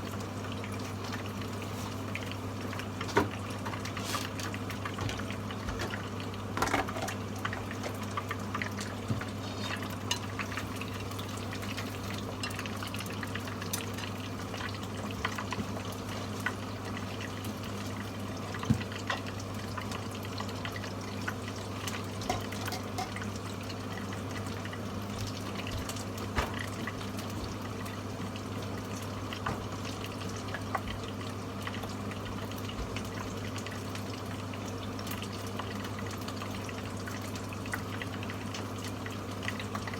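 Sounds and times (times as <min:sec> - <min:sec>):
chicken deep-frying in oil: 0:00.0 - 0:39.9
oil crackles and pops: 0:00.0 - 0:39.9.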